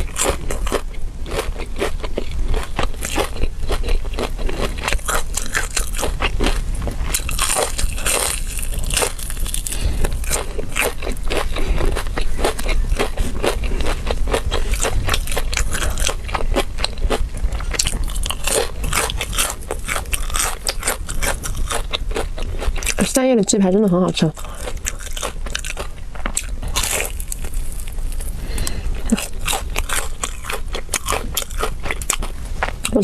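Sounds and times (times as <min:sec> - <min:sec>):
crunchy chewing: 0:00.0 - 0:23.2, 0:23.8 - 0:33.0.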